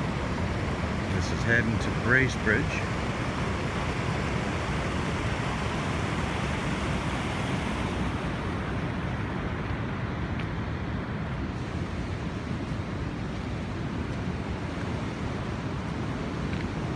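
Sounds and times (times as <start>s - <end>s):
flooding river rushing: 0.0s - 16.9s.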